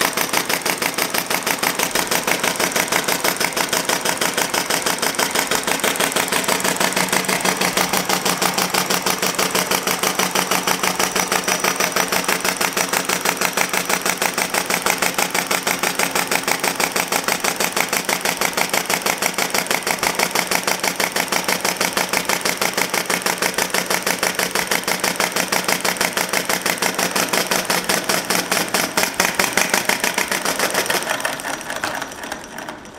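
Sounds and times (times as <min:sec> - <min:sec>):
model engine air exhaust puffs: 0:00.0 - 0:32.9.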